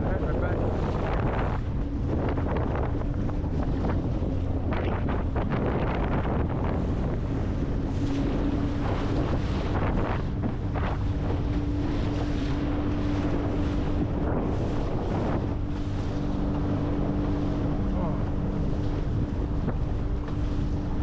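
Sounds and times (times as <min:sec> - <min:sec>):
boat motor running: 0:00.0 - 0:21.0
water rushing along hull: 0:00.0 - 0:21.0
wind buffeting microphone: 0:00.0 - 0:21.0.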